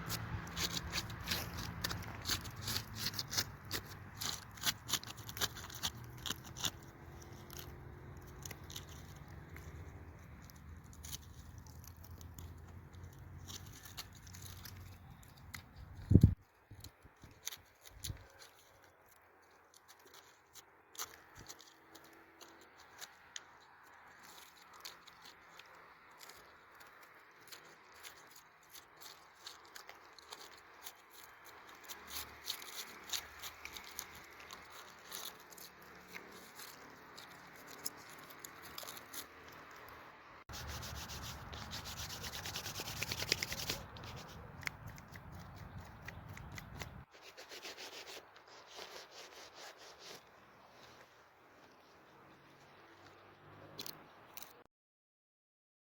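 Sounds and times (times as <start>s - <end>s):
close-up rubbing and crackling: 0.0s - 54.6s.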